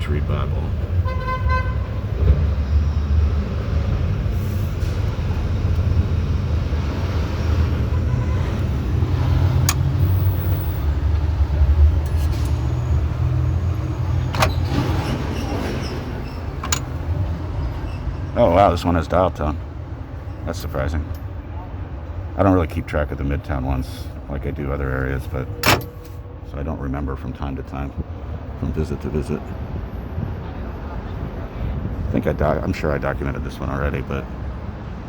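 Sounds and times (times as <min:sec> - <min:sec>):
vehicle engines rumbling: 0:00.0 - 0:35.0.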